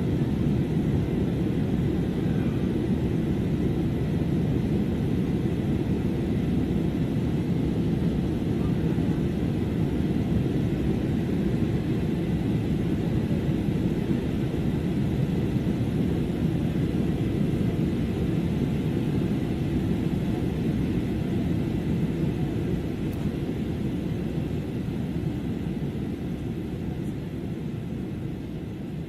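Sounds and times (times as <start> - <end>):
airliner cabin rumble: 0.0 - 29.0
faint steady whine: 0.0 - 29.0.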